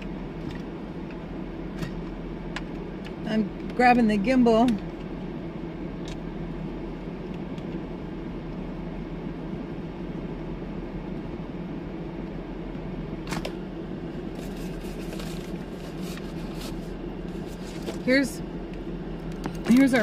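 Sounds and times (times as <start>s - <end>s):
car cabin low hum: 0.0s - 20.0s.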